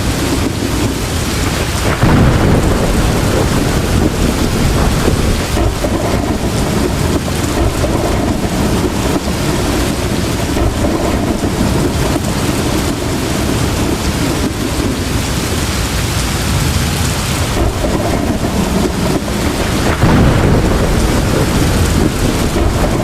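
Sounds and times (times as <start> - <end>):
heavy rain: 0.0 - 23.0
low rumble of thunder: 0.0 - 23.0.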